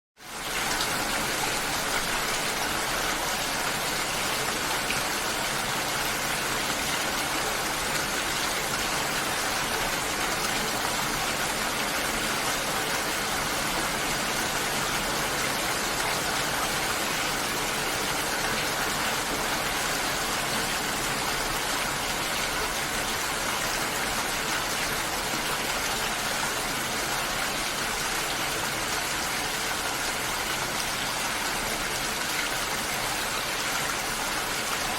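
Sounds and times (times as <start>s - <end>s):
water rushing: 0.3s - 34.9s.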